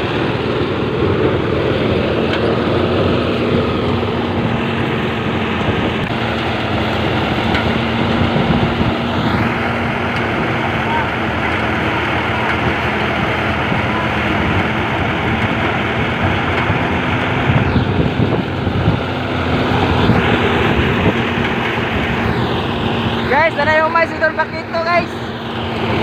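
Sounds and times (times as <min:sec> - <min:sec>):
thresher engine hum: 0:00.0 - 0:26.0.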